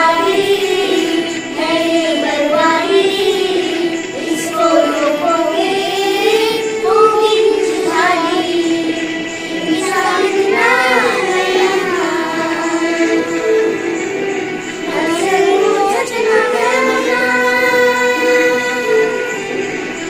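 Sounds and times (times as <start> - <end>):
person singing a song: 0.0 - 20.0.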